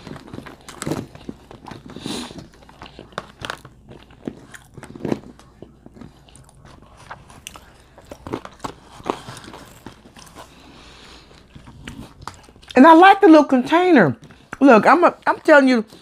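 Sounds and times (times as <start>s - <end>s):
chewing crunchy food: 0.0s - 12.8s, 13.6s - 16.0s.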